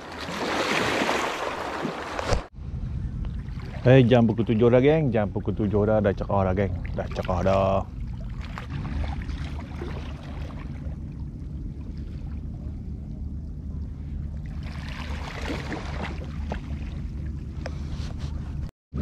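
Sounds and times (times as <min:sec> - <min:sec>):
choppy sea on rocks: 0:00.0 - 0:02.5, 0:03.4 - 0:13.0, 0:13.9 - 0:17.6
wind: 0:00.0 - 0:19.0.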